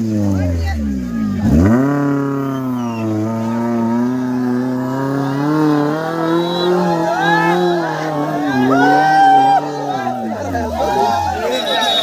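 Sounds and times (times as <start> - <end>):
engine at high revs: 0.0 - 12.0.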